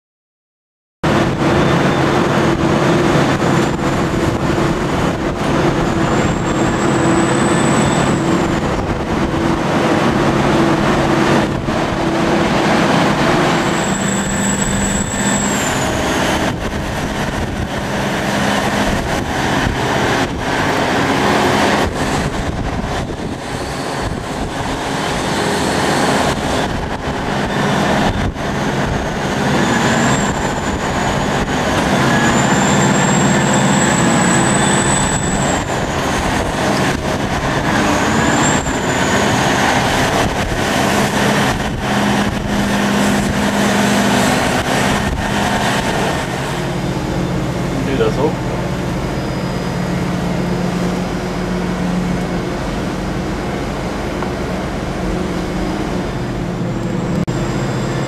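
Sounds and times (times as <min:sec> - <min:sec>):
excavator engine drone: 0:01.0 - 0:58.0
high hydraulic whine: 0:01.0 - 0:58.0.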